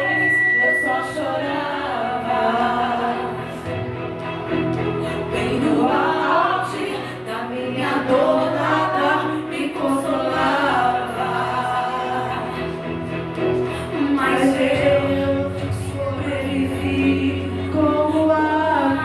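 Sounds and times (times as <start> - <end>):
person singing gospel melody: 0.0 - 19.0
sustained low accompaniment notes: 0.0 - 19.0.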